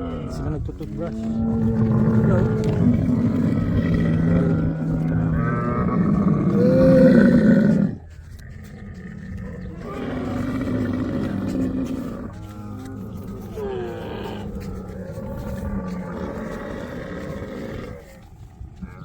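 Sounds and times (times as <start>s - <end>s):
camels growling: 0.0s - 19.0s.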